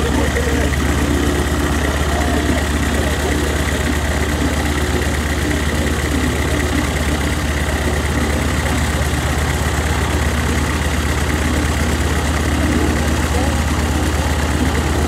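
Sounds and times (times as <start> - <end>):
radial aircraft engines idling: 0.0 - 15.0.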